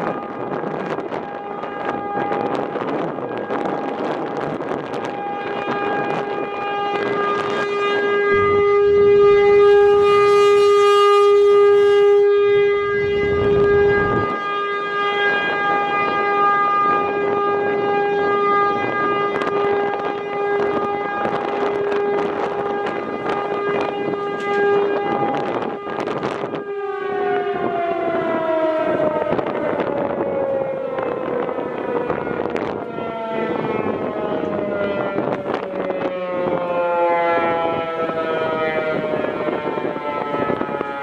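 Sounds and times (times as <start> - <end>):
tornado siren steady tone: 0.0 - 41.0
wind buffeting microphone: 0.0 - 41.0.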